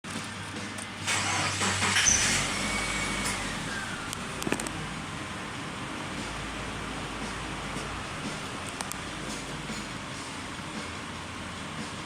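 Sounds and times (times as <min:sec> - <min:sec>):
car engine cranking and idling: 0:00.7 - 0:11.5.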